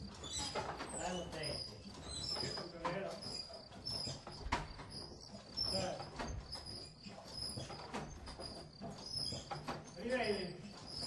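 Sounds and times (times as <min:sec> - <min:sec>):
scattered knocks: 0:00.0 - 0:11.0.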